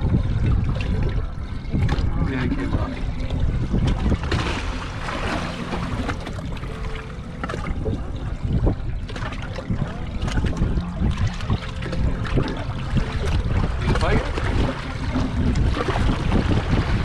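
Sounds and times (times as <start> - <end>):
water sloshing against boat hull: 0.0 - 17.0
wind buffeting microphone: 0.0 - 17.0.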